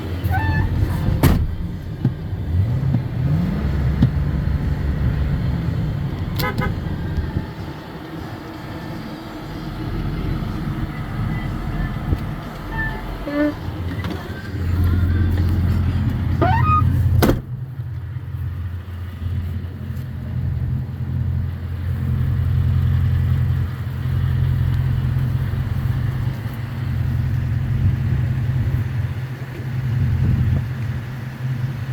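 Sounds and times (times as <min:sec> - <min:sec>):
pickup engine idling: 0:00.0 - 0:31.9.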